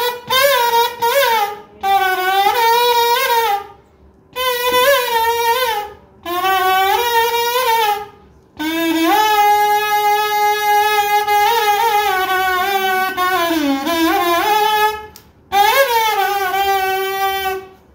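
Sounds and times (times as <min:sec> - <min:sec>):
pipe blown like a flute: 0:00.0 - 0:17.9.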